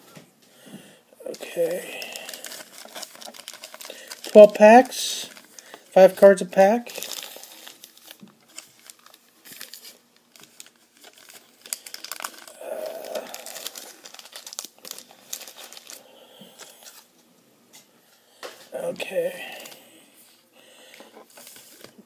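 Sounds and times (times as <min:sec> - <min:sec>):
foil wrappers crinkling: 0:01.3 - 0:17.1, 0:18.4 - 0:22.0.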